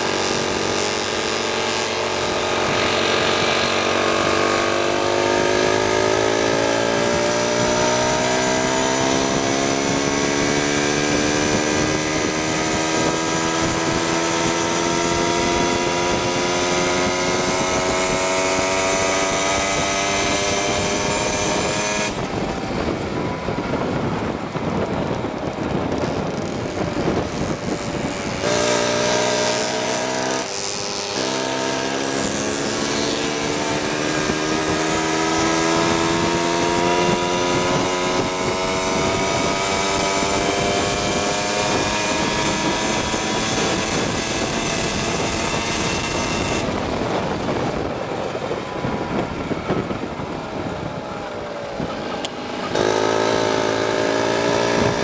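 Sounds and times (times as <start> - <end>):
moped two-stroke engine: 0.0 - 55.0.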